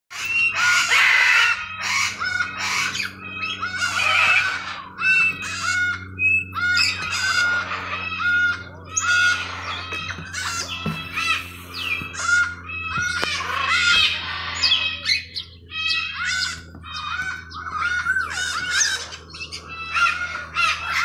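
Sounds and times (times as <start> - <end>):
macaws squawking: 0.1 - 21.0.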